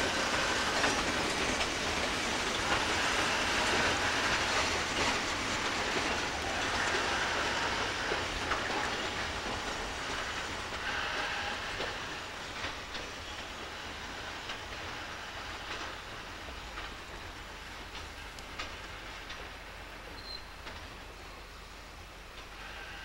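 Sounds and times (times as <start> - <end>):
wheels clicking over rail joints: 0.0 - 21.6
freight train rumbling: 0.0 - 23.0.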